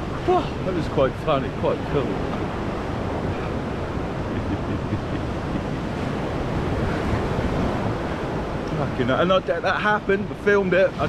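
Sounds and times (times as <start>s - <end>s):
sea surf washing onto beach: 0.0s - 11.0s
wind rumbling on microphone: 0.0s - 11.0s.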